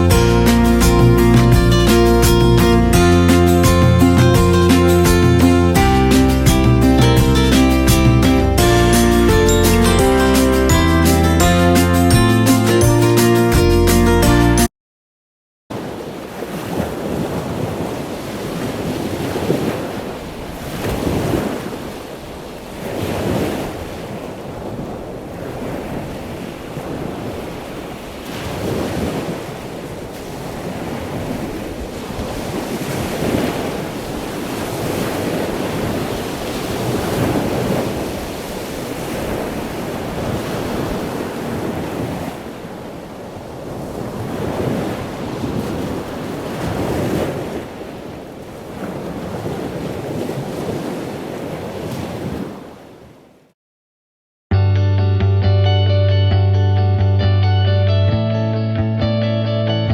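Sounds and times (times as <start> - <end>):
wind: 0.0 - 12.1, 15.7 - 53.6
ocean waves breaking: 0.0 - 14.7, 15.7 - 53.6.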